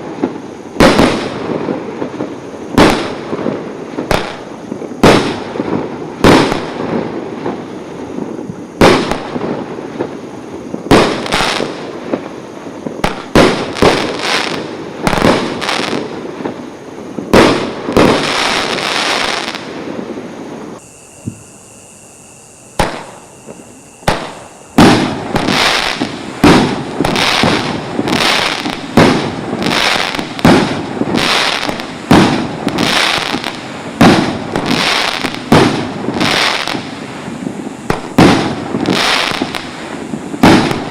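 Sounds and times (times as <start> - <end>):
fireworks bangs with crackle: 0.0 - 21.8, 22.6 - 40.9.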